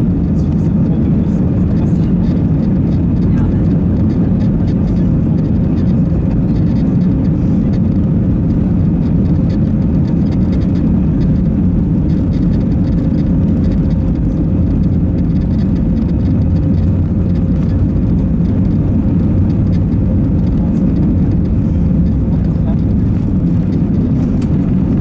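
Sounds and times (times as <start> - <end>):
engine and airflow rumble: 0.0 - 25.0.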